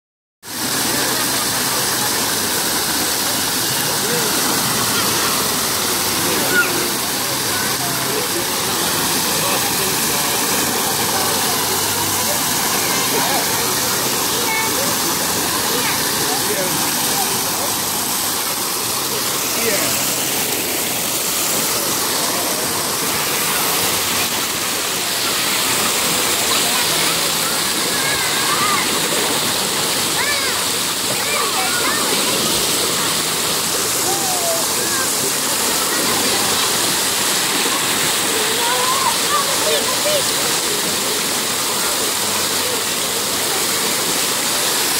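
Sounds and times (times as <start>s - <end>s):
waterfall pouring into pool: 0.4s - 44.9s
faint voices: 0.5s - 44.9s.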